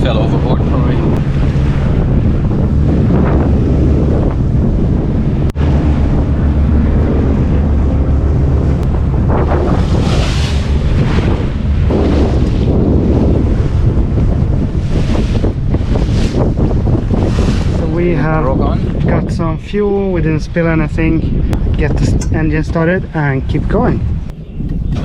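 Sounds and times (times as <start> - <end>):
waves washing against boat hull: 0.0 - 25.0
wind buffeting microphone: 0.0 - 25.0.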